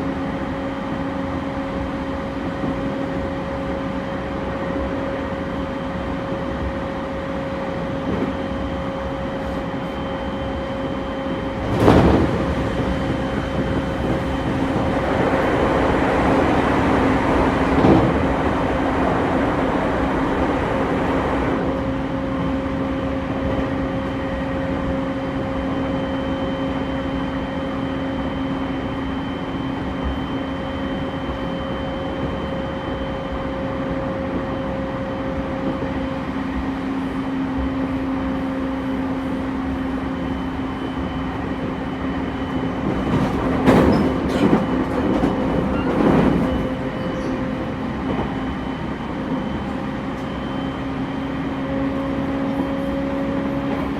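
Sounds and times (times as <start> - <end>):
train running hum and rumble: 0.0 - 53.9.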